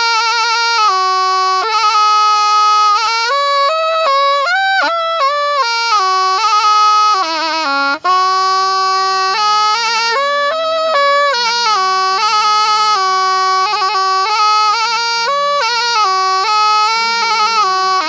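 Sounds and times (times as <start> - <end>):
reed oboe solo melody: 0.0 - 18.0.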